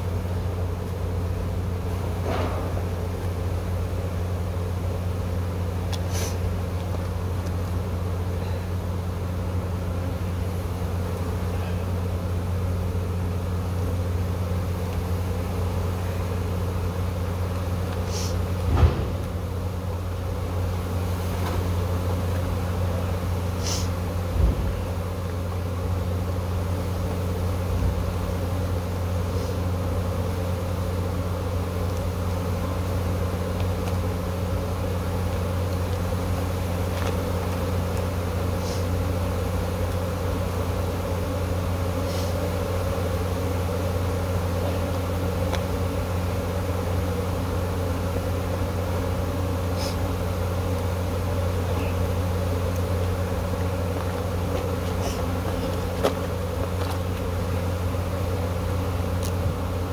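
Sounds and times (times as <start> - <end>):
bee swarm buzzing: 0.0 - 59.9.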